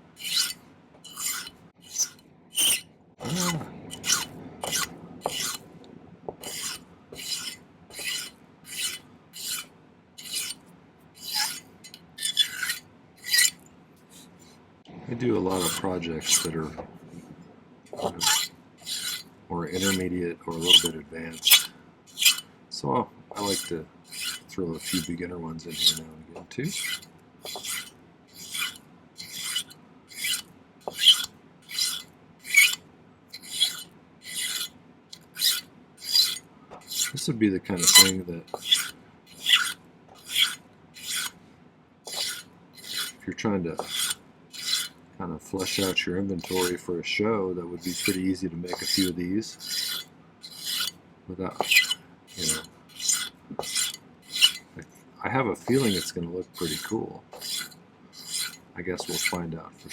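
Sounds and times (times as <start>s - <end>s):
hand file rasping on wire: 0.2s - 5.7s, 6.4s - 10.6s, 11.2s - 14.4s, 15.5s - 16.7s, 17.9s - 22.5s, 23.3s - 32.8s, 33.4s - 41.4s, 42.1s - 45.0s, 45.6s - 46.9s, 47.8s - 54.8s, 55.6s - 59.9s.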